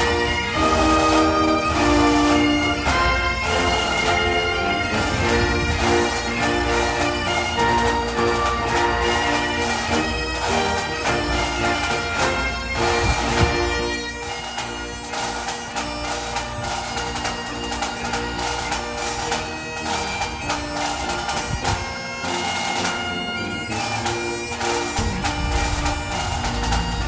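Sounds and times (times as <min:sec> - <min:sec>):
bagpipe melody over drones: 0:00.0 - 0:27.0.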